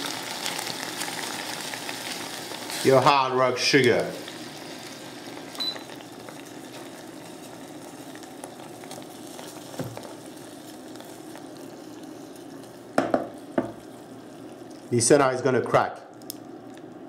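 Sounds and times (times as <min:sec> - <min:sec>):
syrup boiling in a saucepan: 0:00.0 - 0:17.0.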